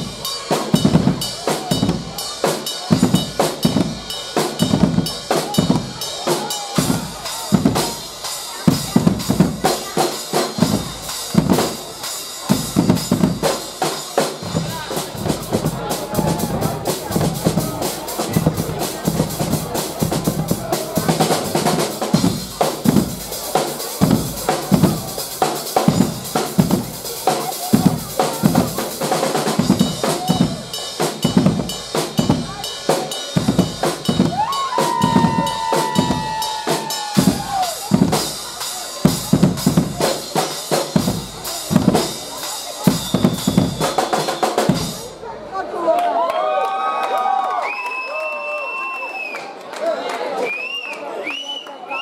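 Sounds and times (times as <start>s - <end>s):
percussion band drumming: 0.0s - 45.3s.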